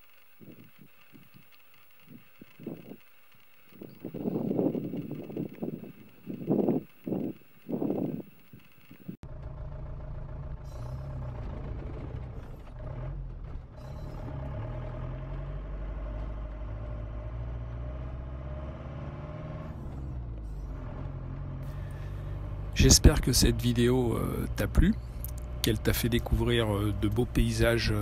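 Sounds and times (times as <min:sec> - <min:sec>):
engine and road noise drone: 0:00.0 - 0:28.0.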